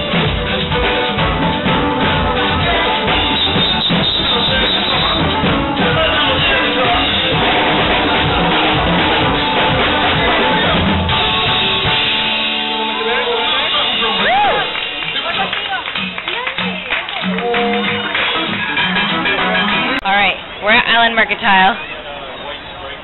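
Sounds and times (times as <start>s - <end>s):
electric guitar: 0.0s - 20.0s
steady drum beat: 0.0s - 20.1s
live upbeat band music: 0.0s - 21.8s.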